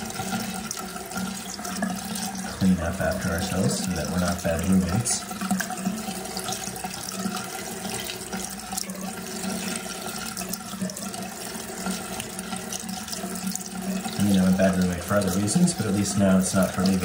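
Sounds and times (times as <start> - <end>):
faucet running: 0.0 - 17.0.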